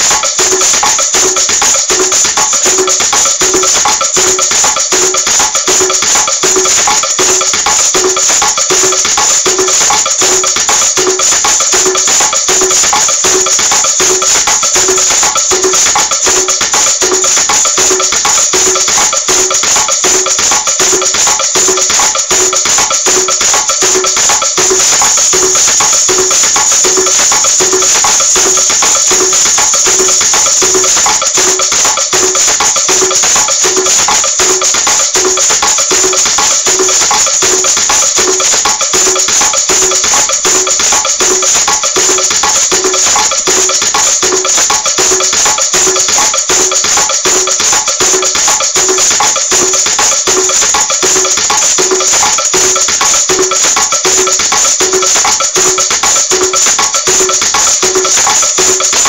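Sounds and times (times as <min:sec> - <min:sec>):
maracas shaking: 0:00.0 - 0:59.0.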